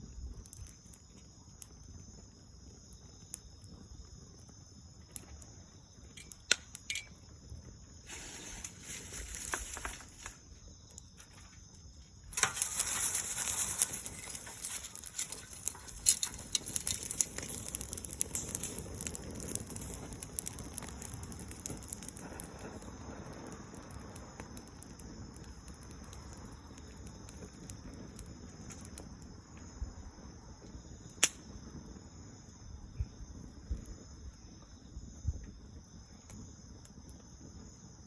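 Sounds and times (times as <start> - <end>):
burning leaves crackling and popping: 0.0 - 38.0
fire hissing: 0.0 - 38.0.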